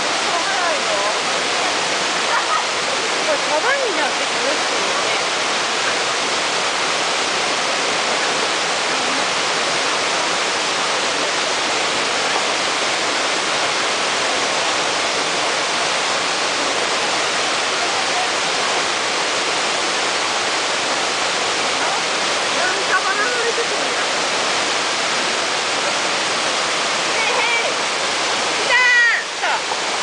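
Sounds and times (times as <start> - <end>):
waterfall rushing over rocks: 0.0 - 30.0.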